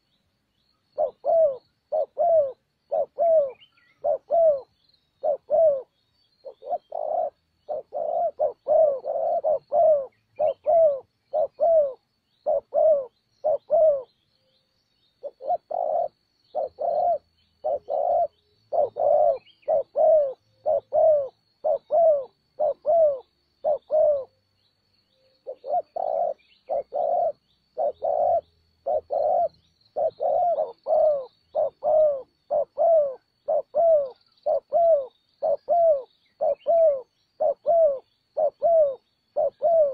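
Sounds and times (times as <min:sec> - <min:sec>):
dove cooing: 0:01.0 - 0:14.2, 0:15.2 - 0:24.5, 0:25.4 - 0:39.9.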